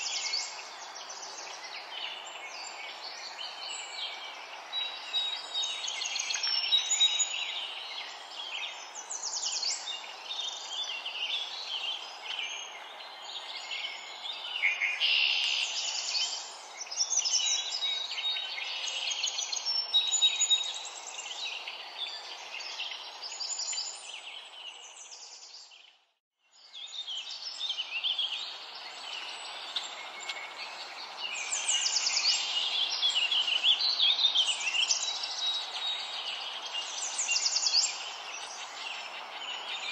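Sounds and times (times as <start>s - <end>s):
birds chirping and singing: 0.0s - 26.0s, 26.6s - 39.9s.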